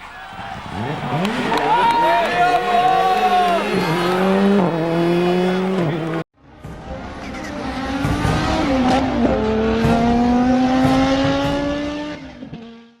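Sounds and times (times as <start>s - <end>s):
rally car engine revving: 0.3s - 13.0s.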